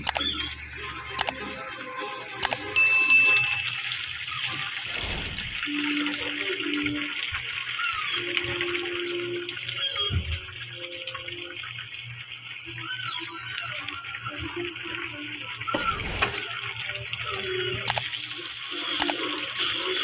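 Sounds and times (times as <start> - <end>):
bubbling sizzle in a pan: 0.0 - 20.0.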